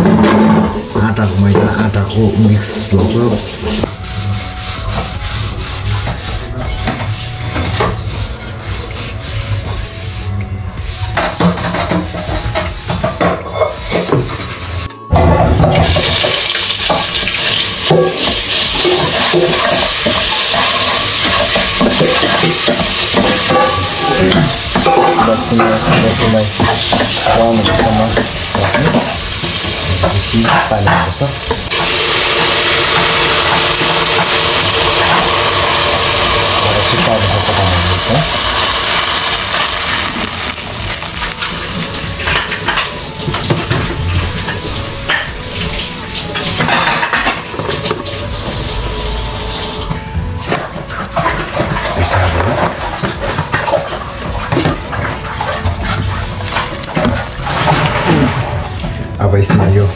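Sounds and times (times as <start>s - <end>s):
food sizzling in pot: 0.0s - 58.9s
metal ladle scraping pot: 0.0s - 58.9s.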